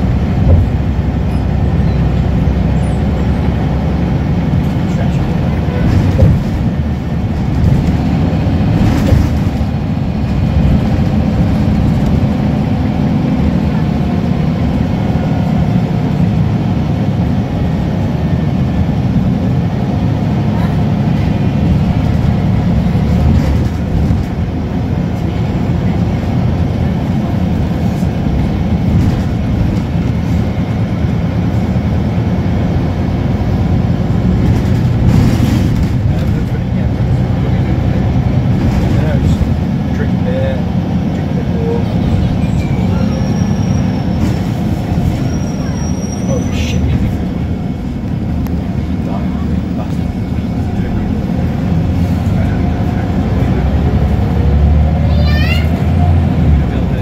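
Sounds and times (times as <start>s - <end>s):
bus diesel engine drone: 0.0s - 57.0s
road rumble: 0.0s - 57.0s.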